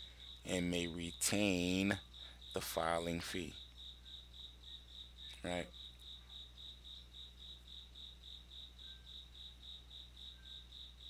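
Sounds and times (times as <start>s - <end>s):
cricket chirping: 0.0s - 11.0s
low electrical hum: 0.0s - 11.0s.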